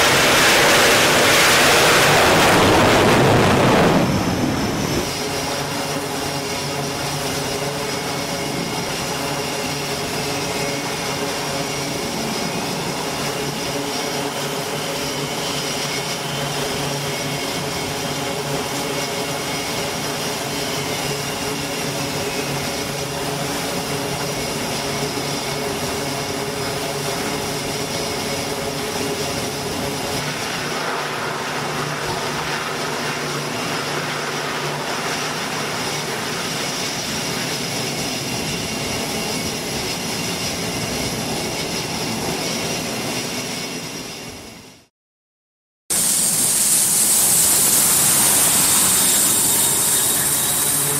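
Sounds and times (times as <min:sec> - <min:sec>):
turboprop engines droning: 0:00.0 - 0:44.9, 0:45.9 - 0:50.9.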